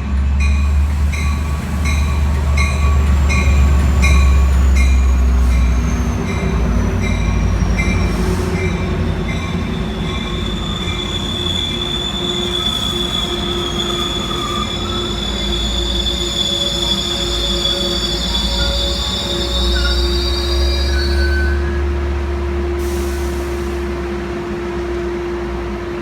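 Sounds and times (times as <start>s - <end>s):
train rumbling: 0.0s - 26.0s
wheels squealing on rails: 0.4s - 24.6s.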